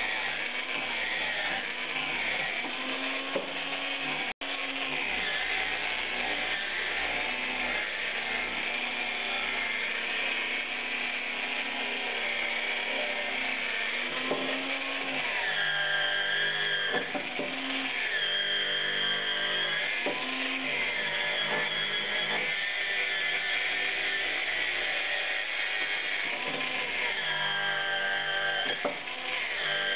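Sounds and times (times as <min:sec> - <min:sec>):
angle grinder grinding metal: 0:00.0 - 0:29.9.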